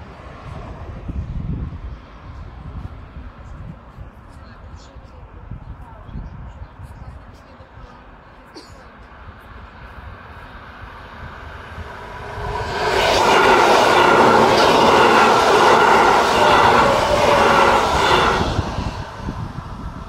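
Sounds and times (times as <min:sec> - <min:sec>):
passenger train passing: 0:00.0 - 0:04.5, 0:07.4 - 0:20.0.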